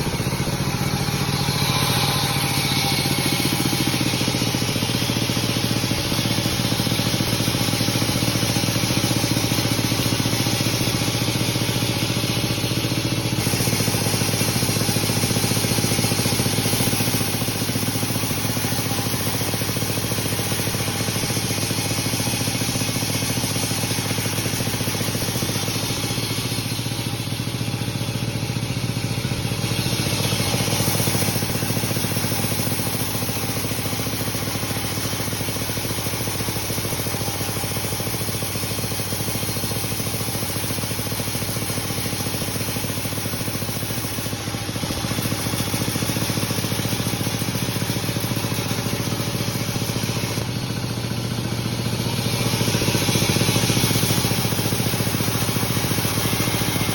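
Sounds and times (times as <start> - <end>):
hiss: 0.0 - 56.9
sawmill machinery drone: 0.0 - 56.9.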